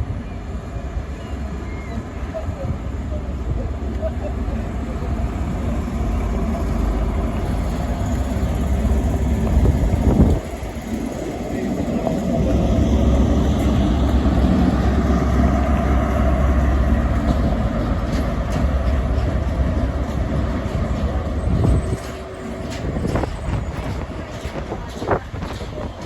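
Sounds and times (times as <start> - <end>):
diesel engines deep hum: 0.0 - 26.0
rail rumble: 0.0 - 26.0.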